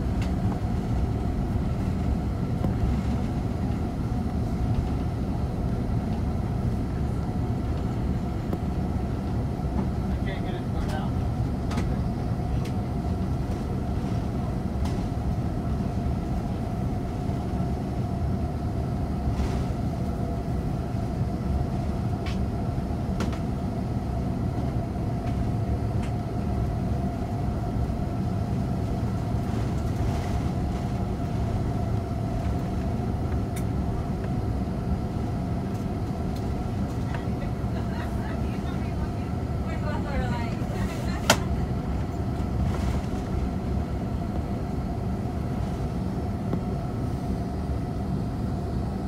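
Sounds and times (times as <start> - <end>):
faint steady whine: 0.0 - 49.0
jet engines idling rumble: 0.0 - 49.0.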